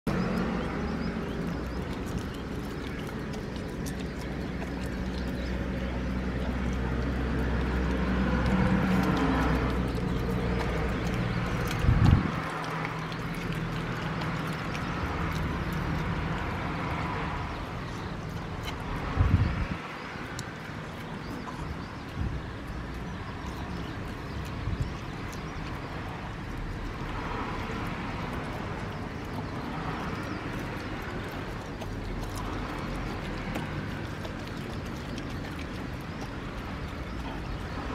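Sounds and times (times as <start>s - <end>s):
dog licking and chewing: 0.1s - 37.9s
steady background noise: 0.1s - 37.9s.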